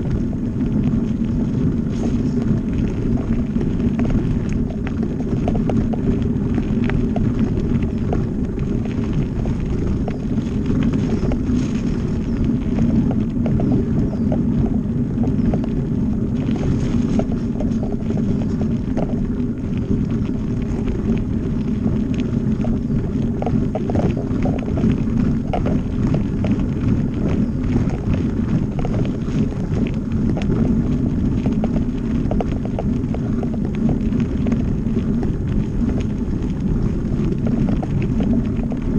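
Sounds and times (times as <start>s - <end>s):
bike rattling over bumps: 0.0s - 38.9s
bike tyres rumbling on dirt: 0.0s - 38.9s.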